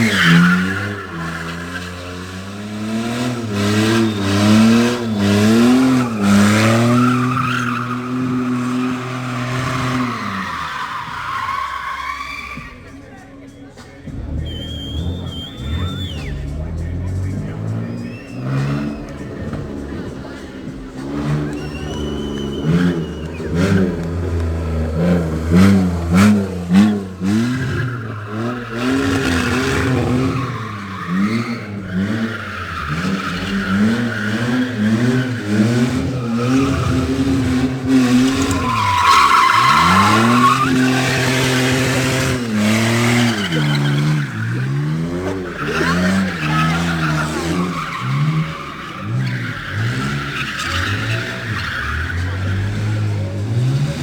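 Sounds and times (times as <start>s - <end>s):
car engine revving: 0.0s - 54.0s
tyres squealing: 0.0s - 54.0s.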